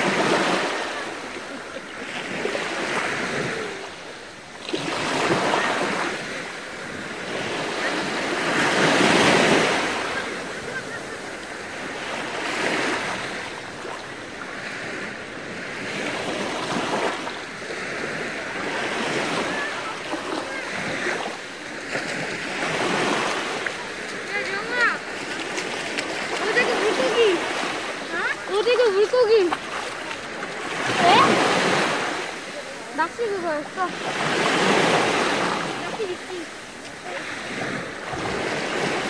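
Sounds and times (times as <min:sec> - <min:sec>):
small waves washing on beach: 0:00.0 - 0:39.0.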